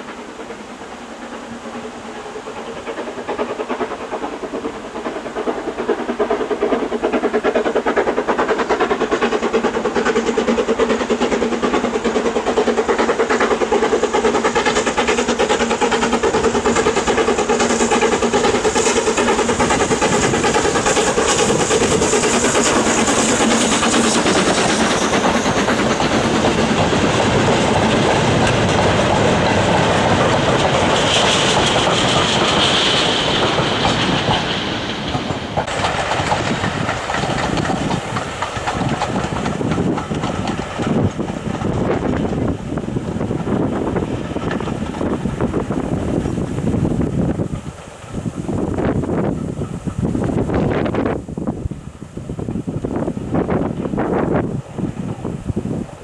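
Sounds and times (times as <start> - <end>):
steam train running past: 0.0 - 56.0.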